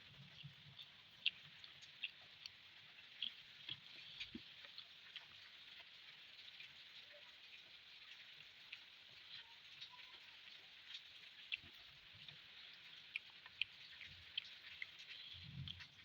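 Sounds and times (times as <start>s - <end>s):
wet eating clicks and smacks: 0.1s - 16.0s.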